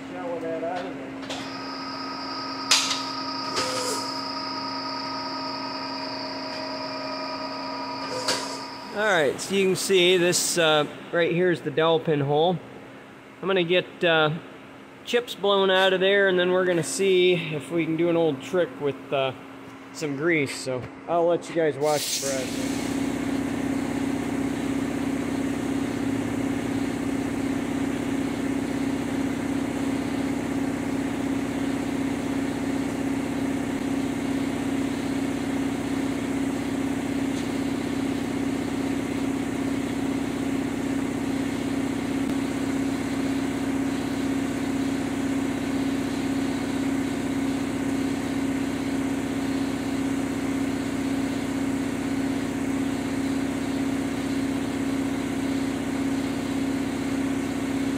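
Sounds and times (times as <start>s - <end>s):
shop machine humming: 0.0s - 57.9s.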